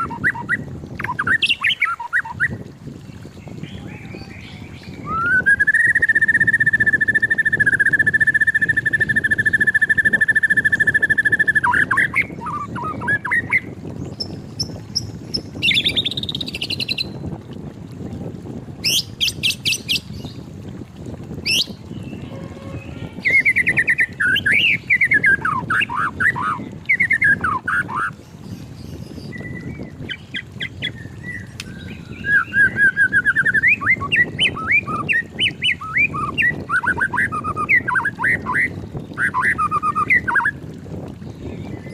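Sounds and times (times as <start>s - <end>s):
bird singing whistles and trills: 0.0s - 2.6s, 3.4s - 17.2s, 18.8s - 20.4s, 21.4s - 40.6s.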